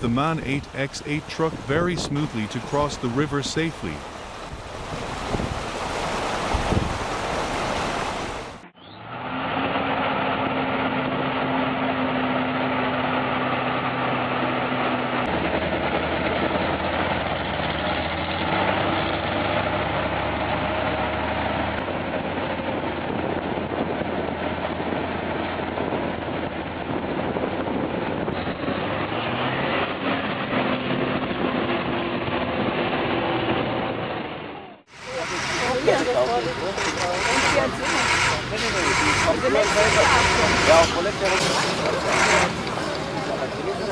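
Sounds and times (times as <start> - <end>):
water noise: 0.0 - 8.7, 9.5 - 43.9
wind: 0.0 - 43.9
heavy truck engine running: 8.4 - 43.9.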